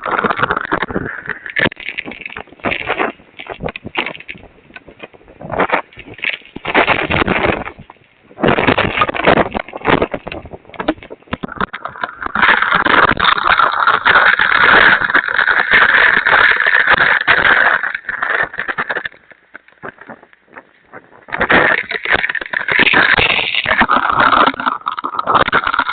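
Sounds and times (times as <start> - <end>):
wind and rain on microphone: 0.0 - 25.9.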